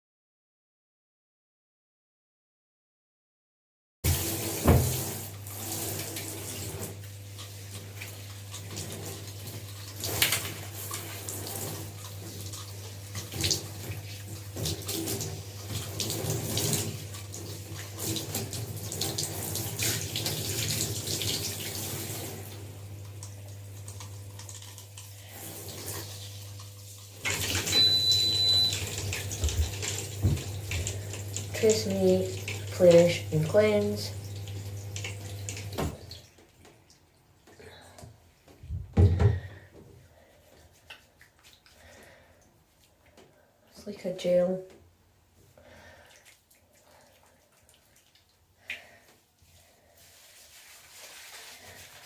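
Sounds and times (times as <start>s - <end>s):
tap water running and splashing: 4.0s - 44.8s, 45.4s - 52.0s.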